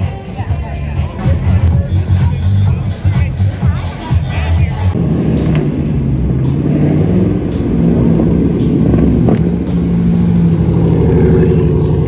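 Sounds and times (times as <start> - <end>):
car engine rumbling at low revs: 0.0 - 12.0.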